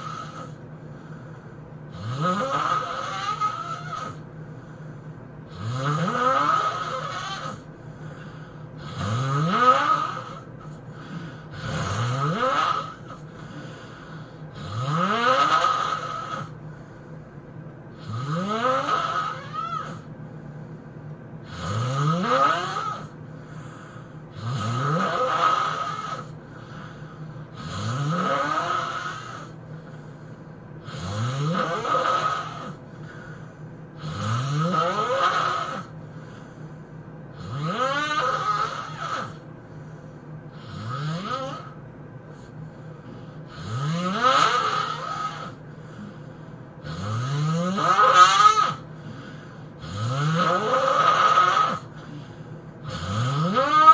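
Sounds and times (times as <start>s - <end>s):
person snoring heavily: 0.0s - 4.3s, 5.4s - 16.6s, 17.9s - 20.1s, 21.4s - 36.7s, 37.3s - 39.5s, 40.5s - 53.9s.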